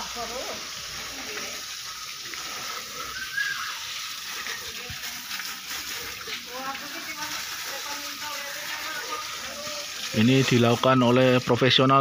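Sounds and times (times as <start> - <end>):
hose water splashing on dog: 0.0 - 12.0.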